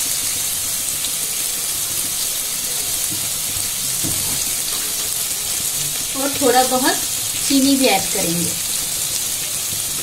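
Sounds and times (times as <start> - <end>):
paste frying in oil: 0.0 - 10.0.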